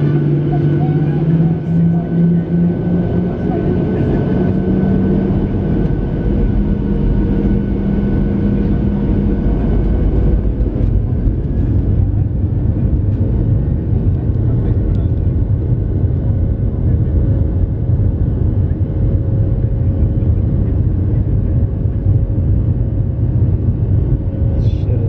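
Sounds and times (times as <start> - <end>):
heavy takeoff rumble: 0.0 - 25.0.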